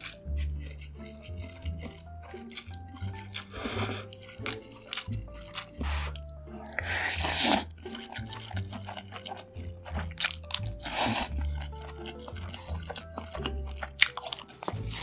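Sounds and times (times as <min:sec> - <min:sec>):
background music with bass: 0:00.0 - 0:15.0
crunchy chewing: 0:00.0 - 0:15.0.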